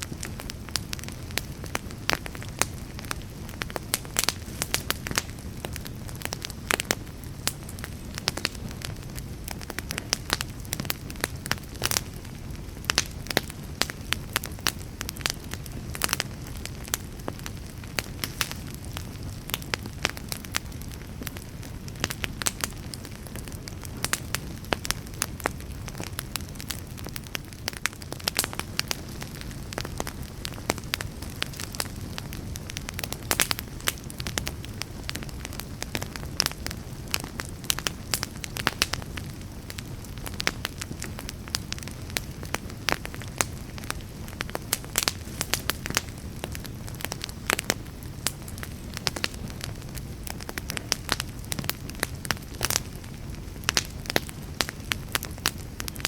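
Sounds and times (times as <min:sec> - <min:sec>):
campfire crackling: 0:00.0 - 0:56.0
low rumble of flames: 0:00.0 - 0:56.0
sharp pops and snaps of fire: 0:00.0 - 0:56.0.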